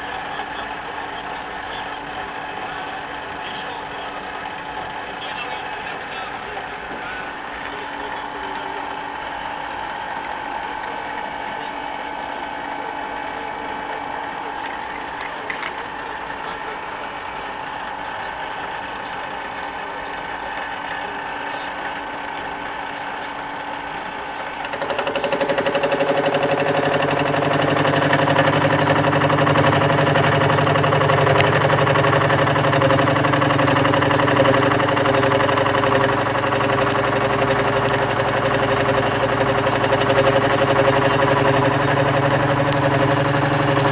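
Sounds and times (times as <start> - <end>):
gear cutting machine humming: 0.0 - 43.9.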